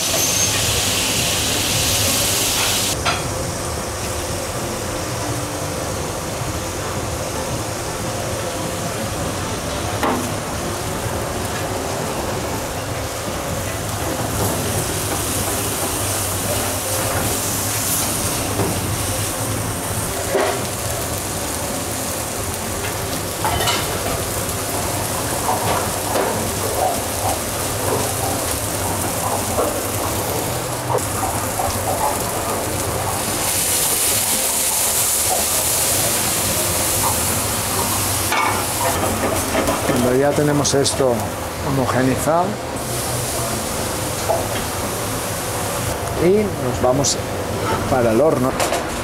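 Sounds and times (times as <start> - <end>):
food sizzling in a pan: 0.0 - 3.2, 8.8 - 46.1.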